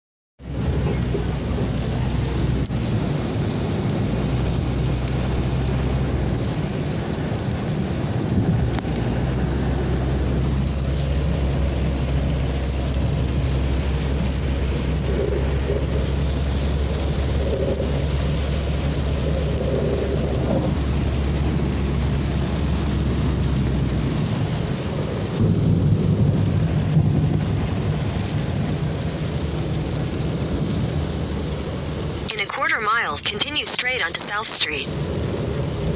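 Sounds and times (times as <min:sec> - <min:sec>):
car road rumble: 0:00.4 - 0:35.9
rain on car: 0:00.4 - 0:35.9.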